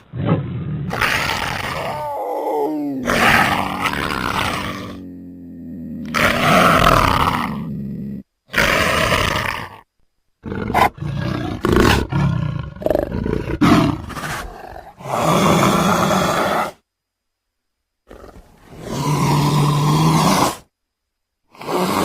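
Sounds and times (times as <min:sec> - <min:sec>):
big cat roaring: 0:00.0 - 0:09.8, 0:10.4 - 0:16.8, 0:18.1 - 0:20.6, 0:21.5 - 0:22.0
big cat snarling: 0:00.0 - 0:09.8, 0:10.4 - 0:16.8, 0:18.1 - 0:20.7, 0:21.5 - 0:22.0.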